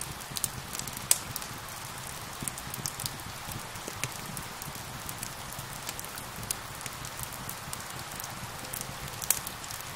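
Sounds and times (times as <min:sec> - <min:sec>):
rain hiss: 0:00.0 - 0:09.9
wood fire crackling and popping: 0:00.0 - 0:09.9.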